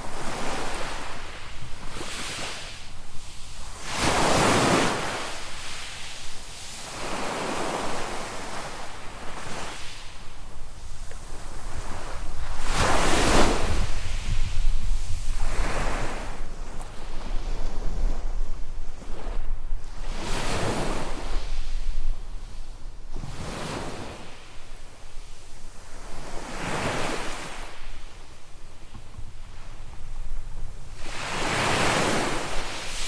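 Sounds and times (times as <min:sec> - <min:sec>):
small waves breaking on sand: 0:00.0 - 0:28.9, 0:29.5 - 0:33.0
wind rumble on microphone: 0:00.0 - 0:33.0.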